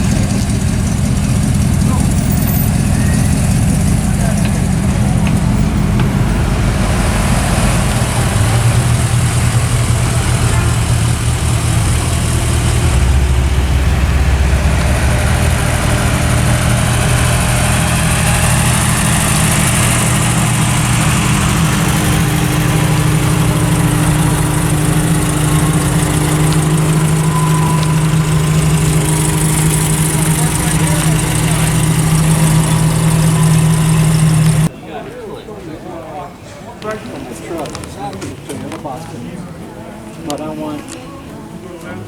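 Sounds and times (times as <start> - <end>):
car engine idling: 0.0 - 34.7.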